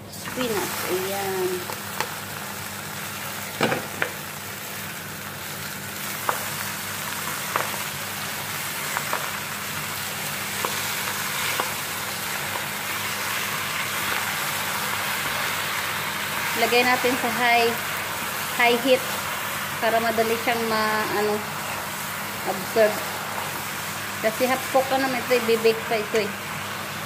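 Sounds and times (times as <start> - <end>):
spinach sizzling in hot oil: 0.0 - 27.0.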